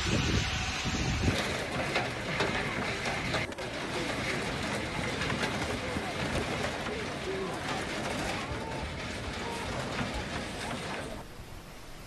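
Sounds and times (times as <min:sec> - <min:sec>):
wind buffeting microphone: 0:00.0 - 0:11.6
steady outdoor hiss: 0:00.0 - 0:12.0.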